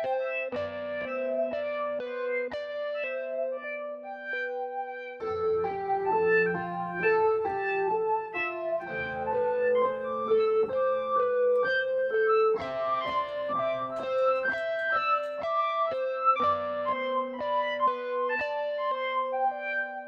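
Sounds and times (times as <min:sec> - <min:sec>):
keyboard melody: 0:00.0 - 0:20.0.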